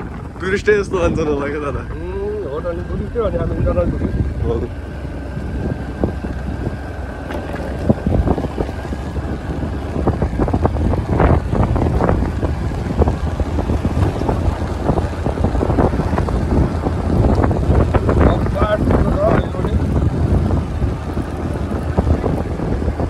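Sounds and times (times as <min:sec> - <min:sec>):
road noise: 0:00.0 - 0:23.0
wind buffeting microphone: 0:00.0 - 0:23.0
motorcycle engine: 0:01.5 - 0:23.0.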